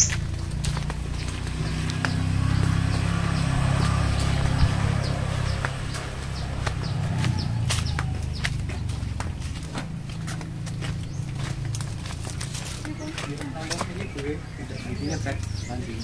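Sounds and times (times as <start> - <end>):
footsteps walking: 0.0 - 16.0.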